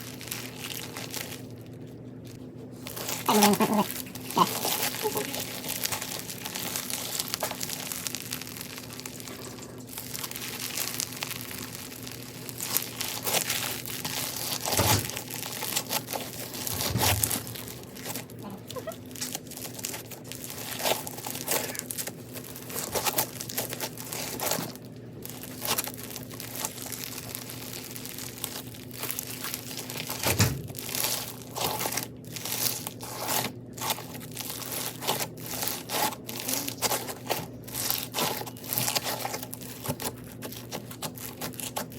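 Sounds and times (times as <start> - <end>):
crunchy slime crackling: 0.0 - 41.9.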